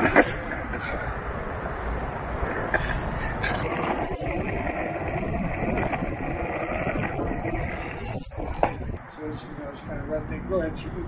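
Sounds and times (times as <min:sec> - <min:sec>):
cars driving past: 0:00.0 - 0:10.9.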